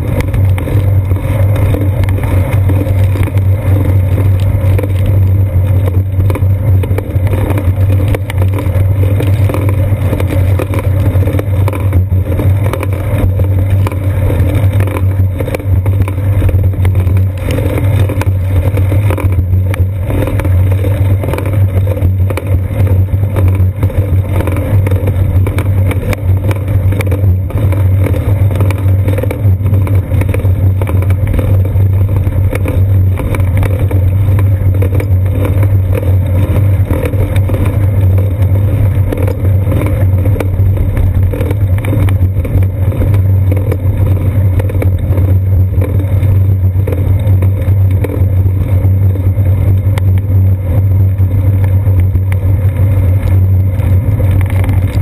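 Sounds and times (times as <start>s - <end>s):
bicycle road vibration: 0.0s - 55.0s
wind rumble: 0.0s - 55.0s.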